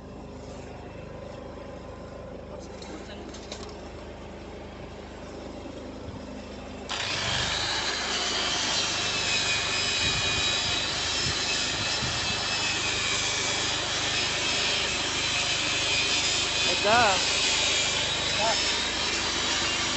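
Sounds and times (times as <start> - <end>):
metalworking noise with whine: 0.0 - 19.9.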